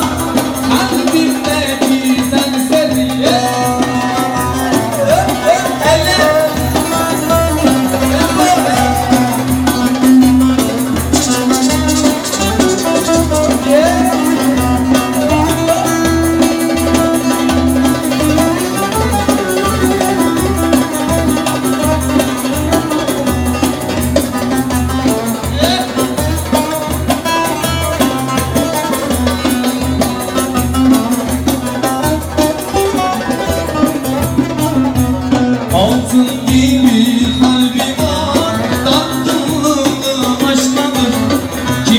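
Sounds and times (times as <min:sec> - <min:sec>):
long-necked lute melody: 0:00.0 - 0:41.9
steady drum beat: 0:00.0 - 0:41.9.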